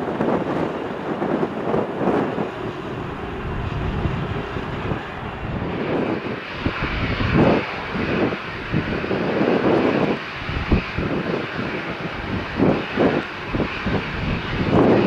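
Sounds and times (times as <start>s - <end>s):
jet engines: 0.0s - 15.0s
wind buffeting microphone: 0.0s - 15.0s.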